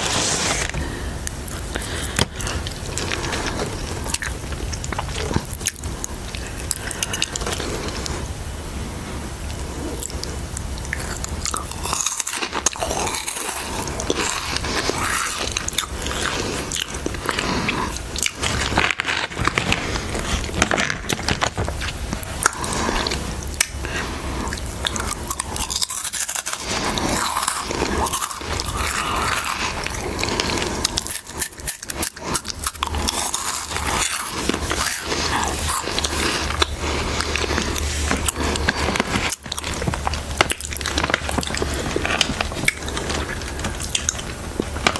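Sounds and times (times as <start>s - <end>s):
chewing crunchy snack: 0.1s - 44.9s.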